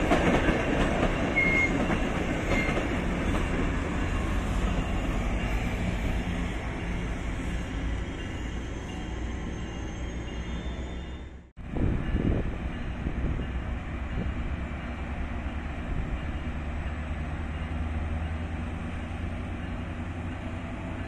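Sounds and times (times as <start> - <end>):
train rolling on track: 0.0 - 21.0.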